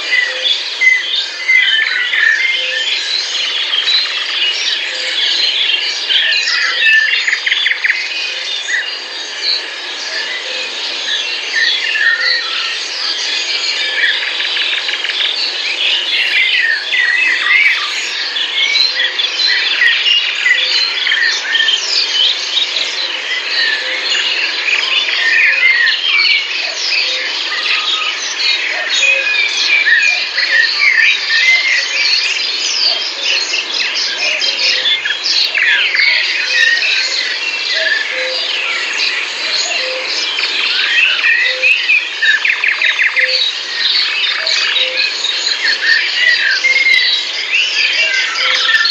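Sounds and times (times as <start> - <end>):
songbirds chirping and singing: 0.0 - 48.9.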